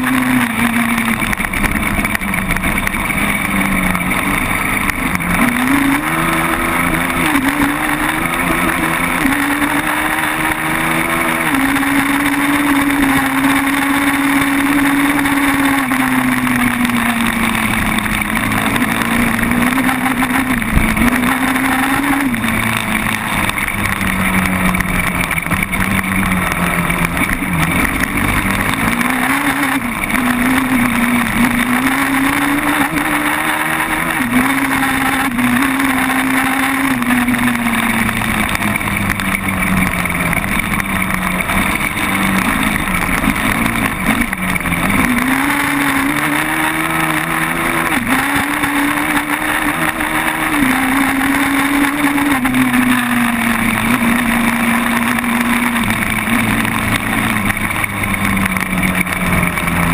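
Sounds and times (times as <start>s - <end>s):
quad bike engine revving: 0.0s - 59.9s.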